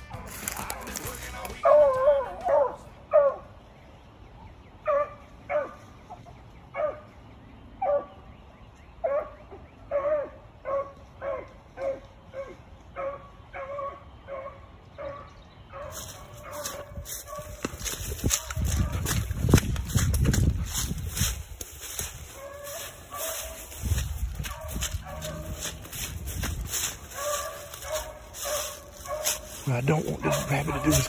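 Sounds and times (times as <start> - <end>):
beagles baying: 0.0 - 3.7, 9.0 - 31.0.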